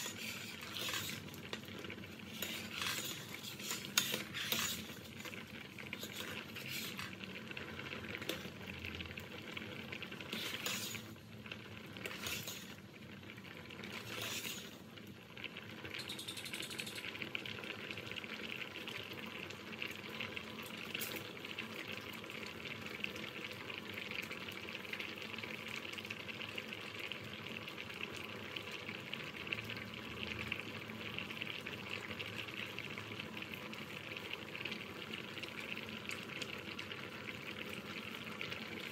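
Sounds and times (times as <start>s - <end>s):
water bubbling at a boil: 0.0s - 38.9s.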